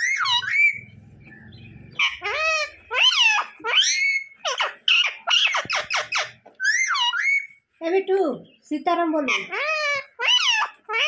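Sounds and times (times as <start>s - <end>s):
parakeet chattering calls: 0.0s - 7.6s, 8.5s - 11.0s.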